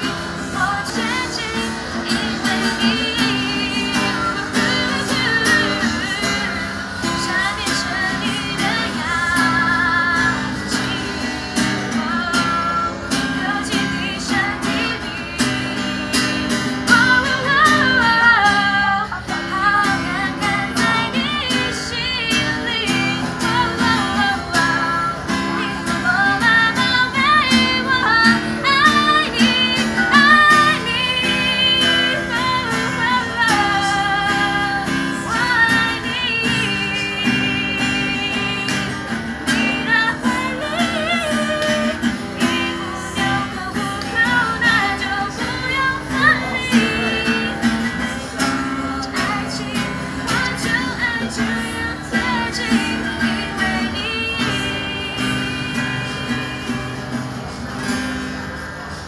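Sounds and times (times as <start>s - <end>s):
woman singing pop ballad: 0.0s - 57.1s
acoustic guitar strumming: 0.0s - 59.0s.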